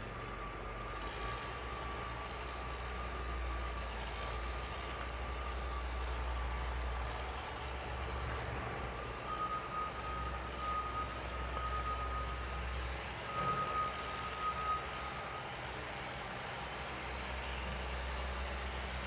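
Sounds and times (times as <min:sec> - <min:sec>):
low engine rumble: 0:00.0 - 0:19.0
truck reversing alarm beeping: 0:00.0 - 0:19.0.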